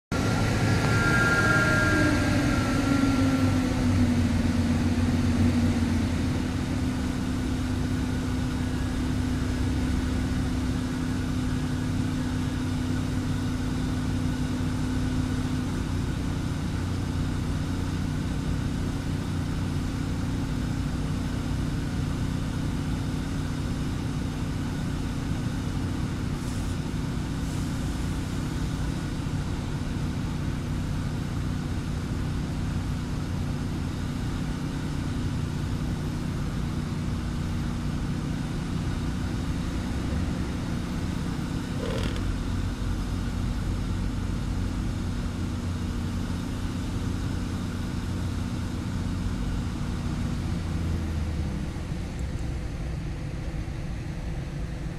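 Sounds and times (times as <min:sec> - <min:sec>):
truck engine droning: 0:00.0 - 0:54.9.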